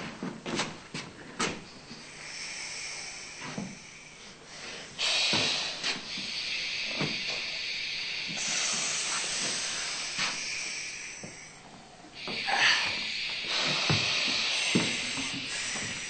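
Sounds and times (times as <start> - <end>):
person hissing through teeth: 2.0 - 16.0.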